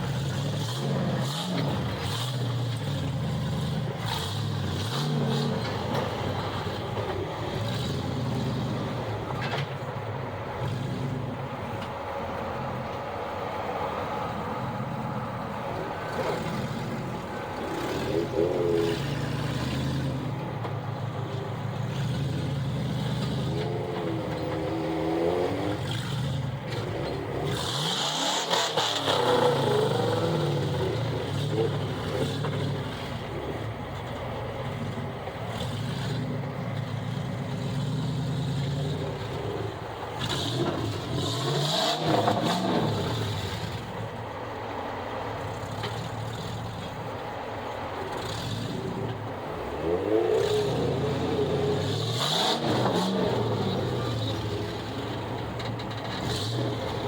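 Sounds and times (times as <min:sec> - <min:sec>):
off-road vehicle engines revving: 0:00.0 - 0:57.0.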